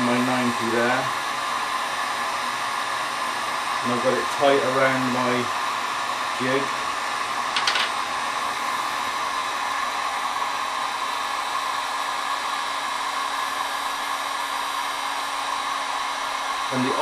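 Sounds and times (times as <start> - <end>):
heat gun blowing air: 0.0 - 17.0.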